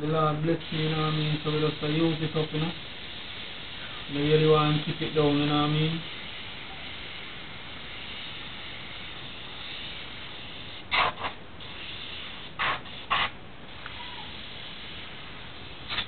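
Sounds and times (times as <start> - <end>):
airbrush hissing: 0.2 - 16.0.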